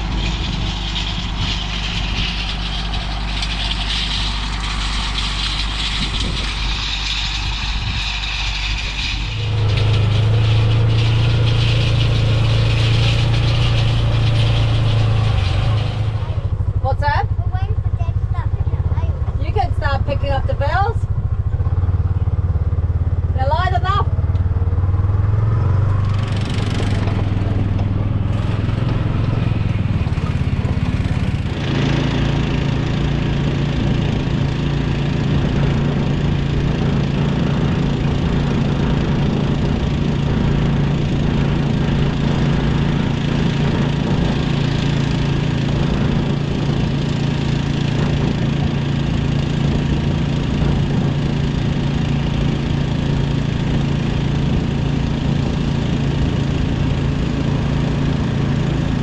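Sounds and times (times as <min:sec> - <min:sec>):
machinery engine running: 0:00.0 - 0:59.0.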